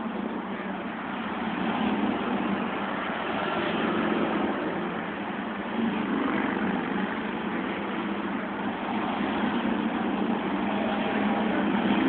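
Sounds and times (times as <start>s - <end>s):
vehicles driving past: 0.0s - 12.0s.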